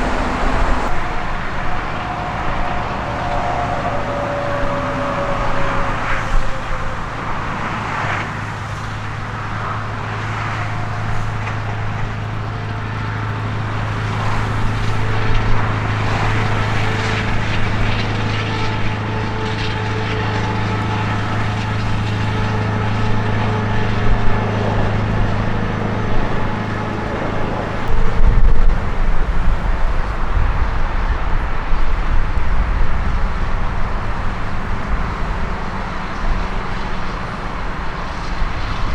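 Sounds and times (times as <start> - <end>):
tow tractor engine hum: 0.0 - 38.9
uneven low rumble: 0.0 - 38.9.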